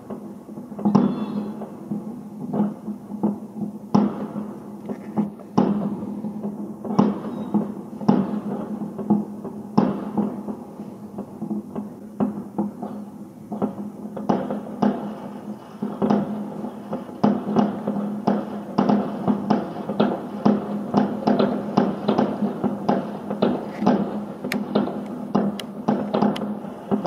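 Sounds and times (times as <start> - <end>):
distant fireworks bangs: 0.0 - 27.0.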